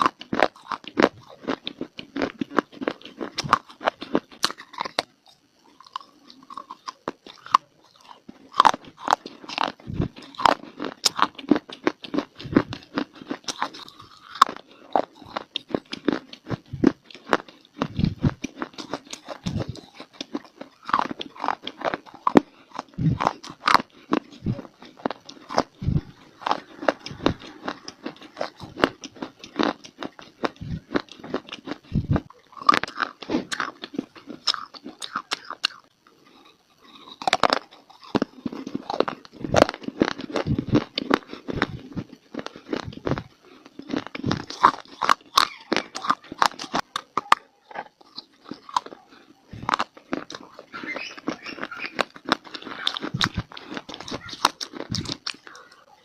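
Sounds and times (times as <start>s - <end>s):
person chewing brittle clay: 0.0s - 56.0s.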